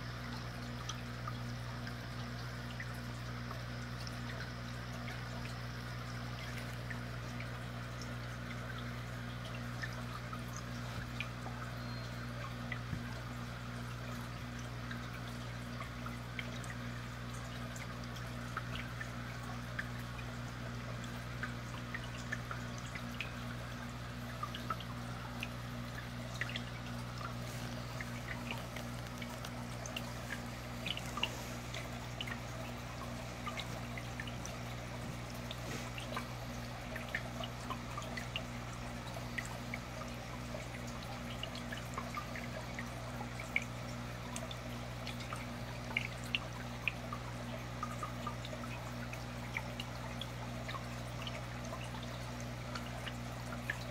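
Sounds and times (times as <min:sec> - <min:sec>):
air bubbles in water: 0:00.0 - 0:53.9
aquarium pump hum: 0:00.0 - 0:53.9
small plinks and drips: 0:00.0 - 0:53.9.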